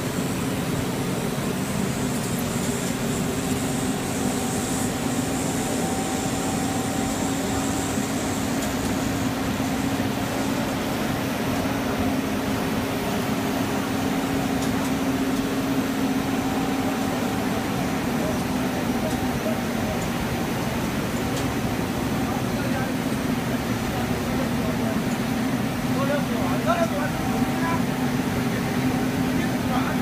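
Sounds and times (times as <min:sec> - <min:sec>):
machinery humming: 0:00.0 - 0:30.0.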